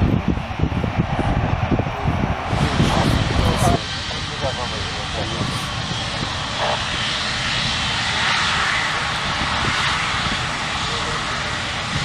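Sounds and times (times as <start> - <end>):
jet engines at taxi power: 0.0 - 12.0.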